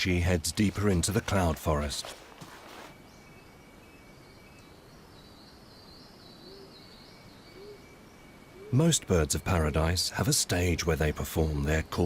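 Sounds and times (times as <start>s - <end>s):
faint forest ambience: 0.0s - 12.0s.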